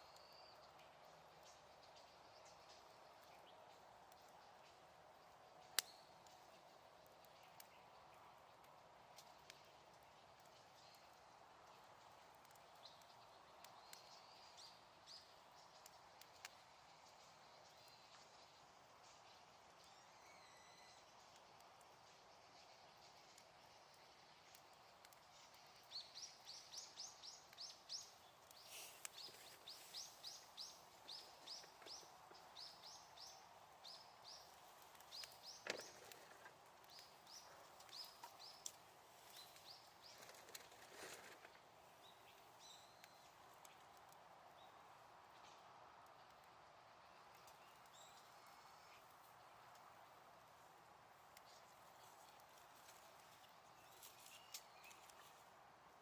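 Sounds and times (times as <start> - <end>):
campfire crackling and popping: 0.0 - 20.4, 21.0 - 56.0.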